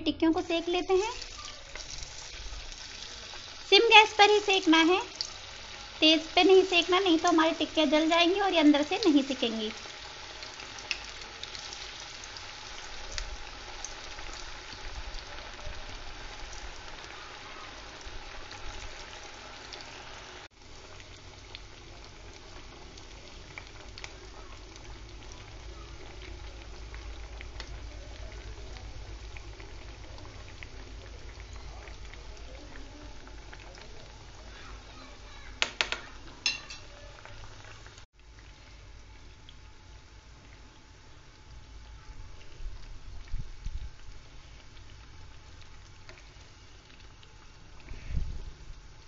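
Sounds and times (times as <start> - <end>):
food deep-frying in hot oil: 0.0 - 49.0.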